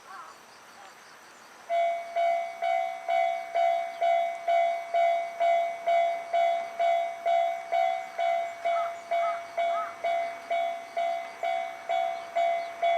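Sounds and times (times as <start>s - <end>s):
level crossing alarm ringing: 1.7s - 12.9s.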